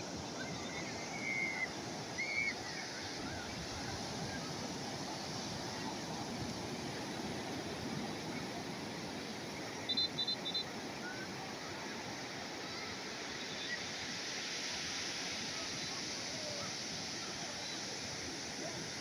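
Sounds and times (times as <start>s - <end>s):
sea waves washing onto shore: 0.0s - 19.0s.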